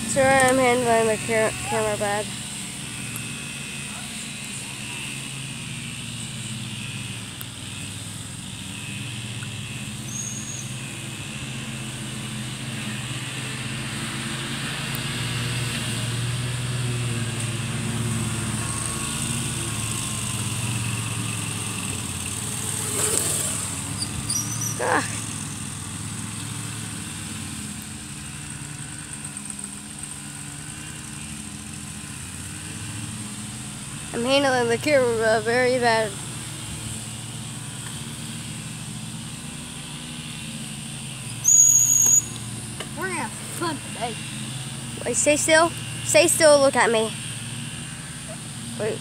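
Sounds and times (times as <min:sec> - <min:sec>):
distant small gasoline engine: 0:00.0 - 0:49.0.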